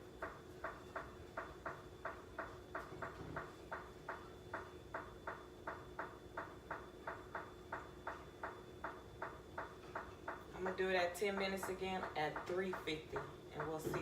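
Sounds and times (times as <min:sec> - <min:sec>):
faint appliance hum: 0:00.0 - 0:14.0
timer ticking: 0:00.2 - 0:14.0.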